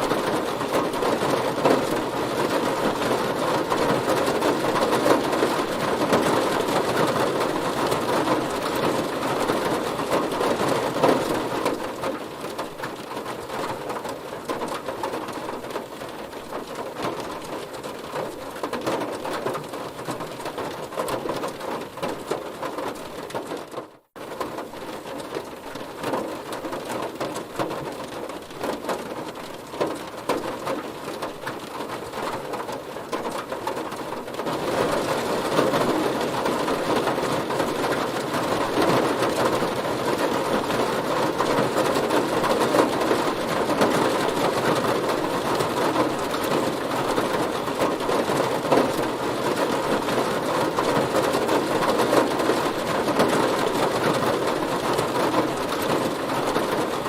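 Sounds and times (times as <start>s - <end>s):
heavy rain on a car: 0.0s - 57.0s.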